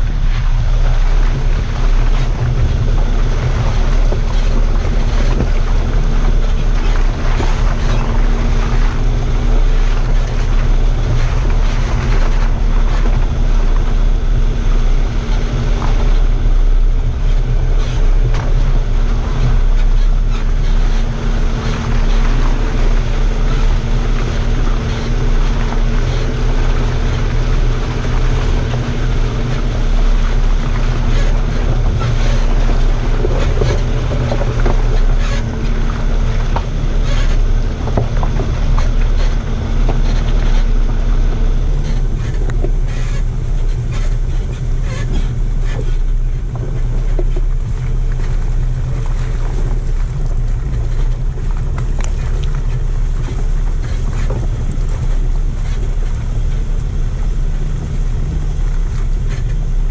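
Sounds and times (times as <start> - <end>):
car engine drone: 0.0 - 59.9
wind buffeting microphone: 0.0 - 59.9.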